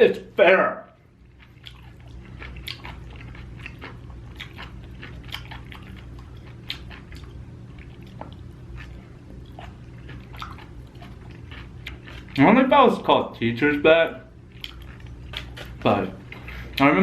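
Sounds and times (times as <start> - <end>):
person chewing food: 1.0 - 12.5, 14.3 - 17.0.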